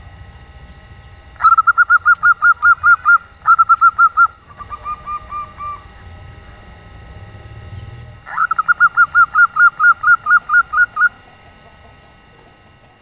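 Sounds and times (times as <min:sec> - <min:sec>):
dove calling rapid notes: 0:00.5 - 0:12.8.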